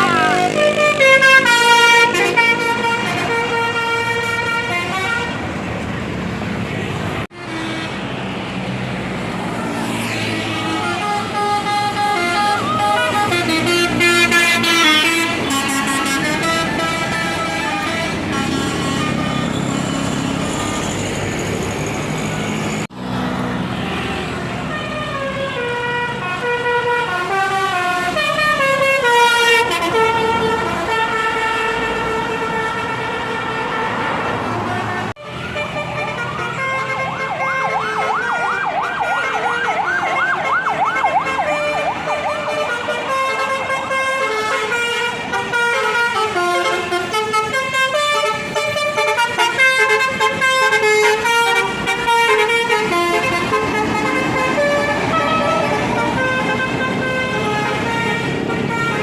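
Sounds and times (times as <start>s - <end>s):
bus horns playing melodies: 0.0s - 5.9s, 6.6s - 59.0s.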